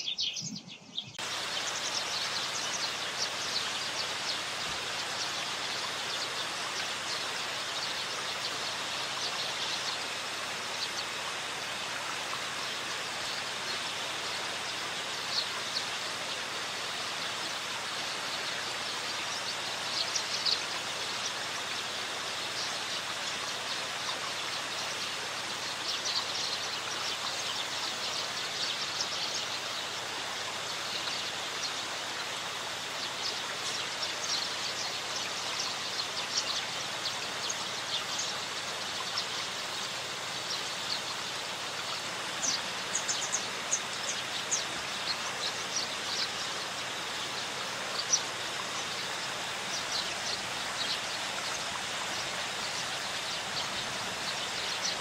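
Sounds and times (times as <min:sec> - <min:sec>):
small birds chirping: 0:00.0 - 0:55.0
water rushing: 0:01.2 - 0:55.0.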